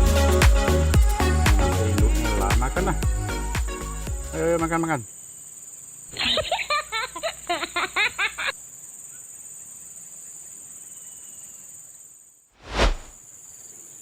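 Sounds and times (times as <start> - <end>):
insects droning: 1.8 - 14.0.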